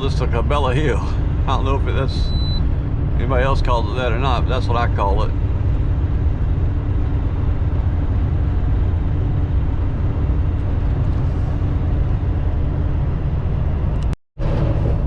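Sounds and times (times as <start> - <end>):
road noise: 0.0 - 15.0
truck engine droning: 0.0 - 15.0.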